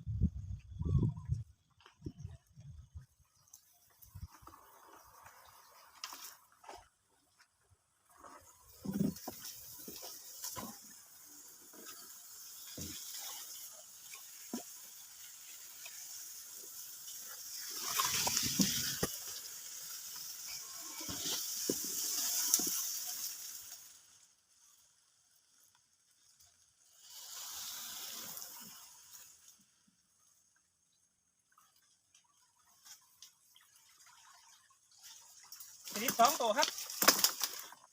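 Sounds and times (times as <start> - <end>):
water splashing and running off: 2.9 - 30.2, 31.4 - 37.9.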